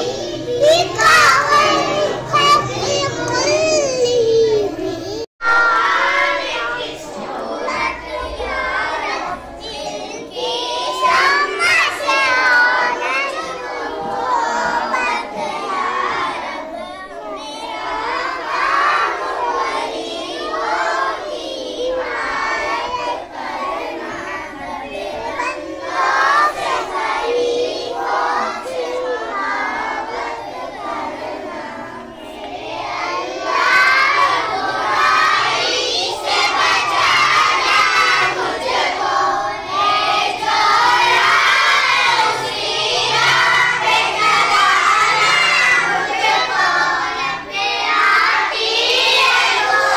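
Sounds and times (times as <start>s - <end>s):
children singing and calling out: 0.0s - 49.9s.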